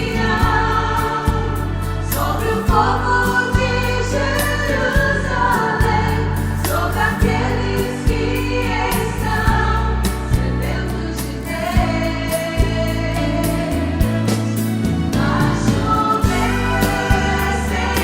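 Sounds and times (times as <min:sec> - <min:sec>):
band with bass and drums: 0:00.0 - 0:18.0
gospel singing with choir: 0:00.0 - 0:18.0.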